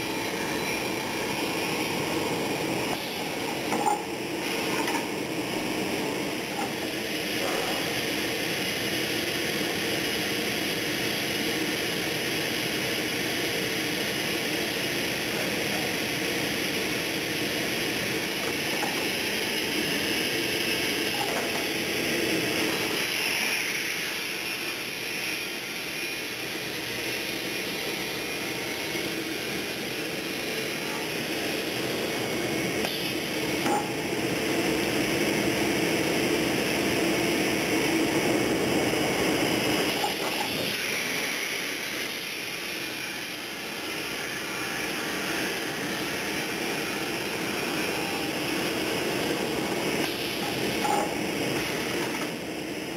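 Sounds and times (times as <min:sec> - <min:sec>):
woodworking machinery running: 0:00.0 - 0:52.9.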